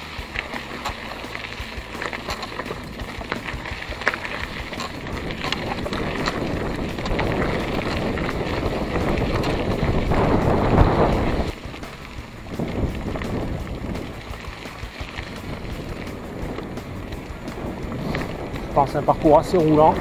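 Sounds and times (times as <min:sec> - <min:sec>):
bike clicks and rattles: 0:00.0 - 0:20.0
tyres crunching on gravel: 0:00.0 - 0:20.0
wind buffeting microphone: 0:00.0 - 0:20.0.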